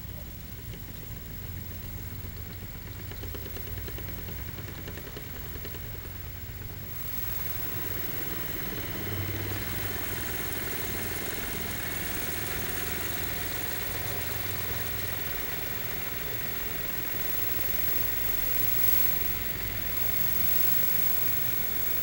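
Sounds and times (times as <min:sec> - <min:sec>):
electric motor whirring: 0:03.3 - 0:22.0.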